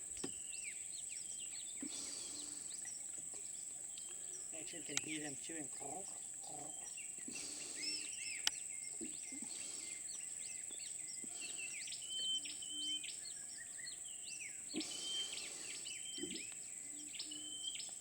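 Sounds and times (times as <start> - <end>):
birds chirping and whistling: 0.0 - 18.0
insect drone: 0.0 - 18.0.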